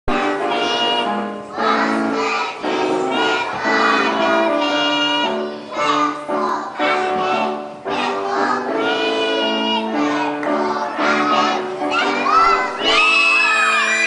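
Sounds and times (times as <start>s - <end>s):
children singing: 0.1s - 14.0s.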